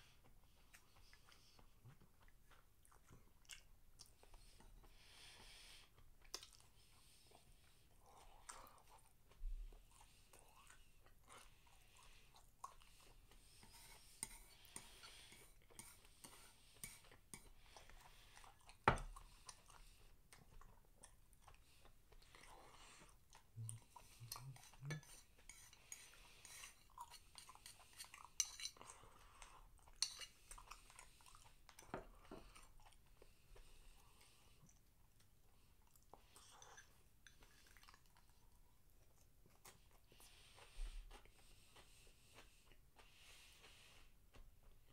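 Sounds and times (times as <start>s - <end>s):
chewing: 0.1s - 44.9s.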